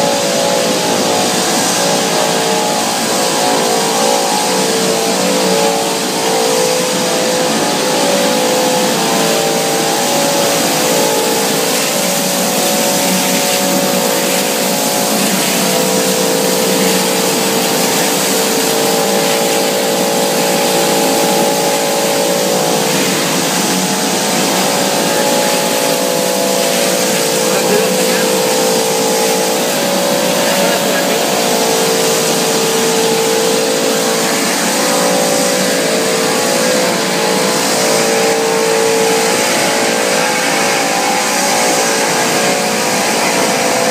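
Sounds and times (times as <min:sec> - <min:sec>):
machinery rushing and humming: 0:00.0 - 0:43.9.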